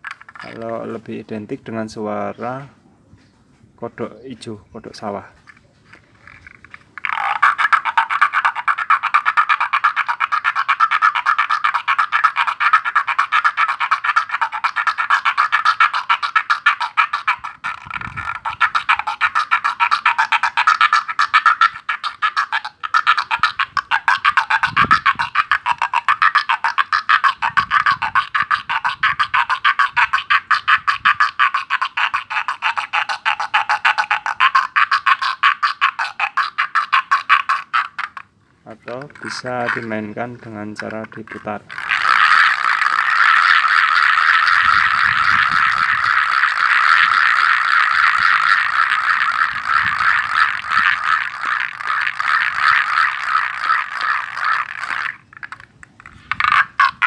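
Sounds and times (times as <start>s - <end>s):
frog sound maker raspy croaks: 0.0s - 1.1s, 6.2s - 57.0s.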